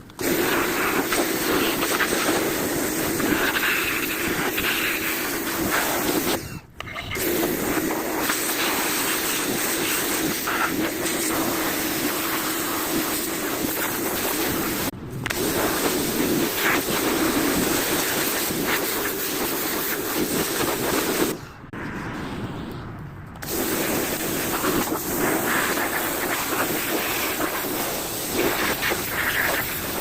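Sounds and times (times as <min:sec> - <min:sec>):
water spray hissing: 0:00.1 - 0:06.4, 0:07.1 - 0:21.4, 0:23.4 - 0:30.0.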